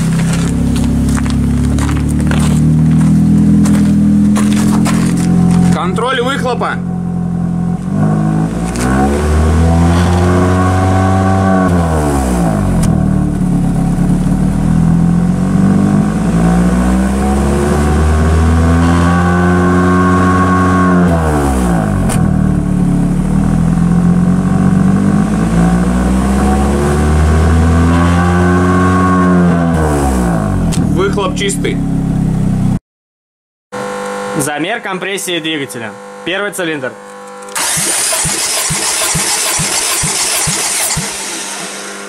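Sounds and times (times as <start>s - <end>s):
car engine revving: 0.0s - 32.8s, 37.0s - 42.0s.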